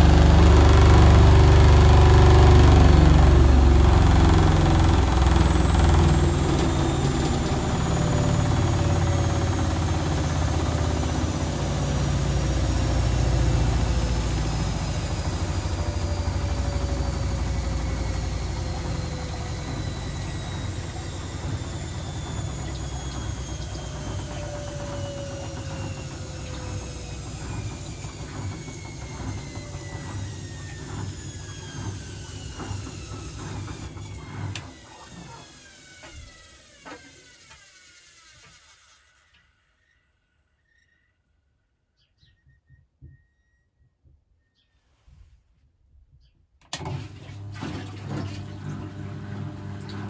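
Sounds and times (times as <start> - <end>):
washing machine motor whine: 0.0 - 40.9, 46.6 - 50.0.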